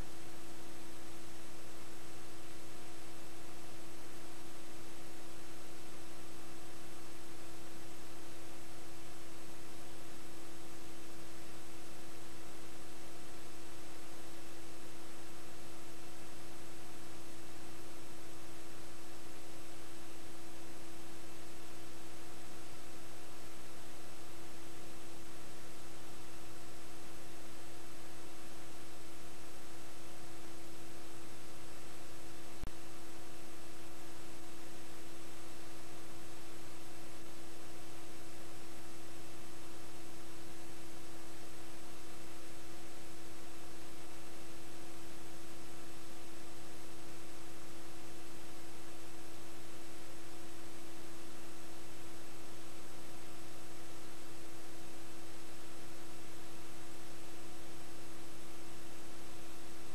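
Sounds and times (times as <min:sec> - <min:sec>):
constant hum: 0:00.0 - 0:59.9
electronic hiss: 0:00.0 - 0:59.9.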